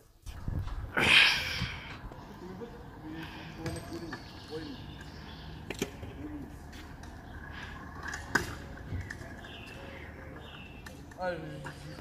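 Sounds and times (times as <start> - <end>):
scooter clacking on pavement: 2.1 - 12.0.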